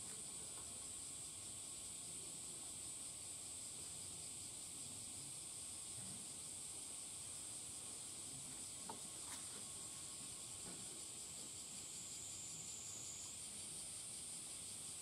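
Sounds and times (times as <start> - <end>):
faint insect chorus hiss: 0.0 - 15.0.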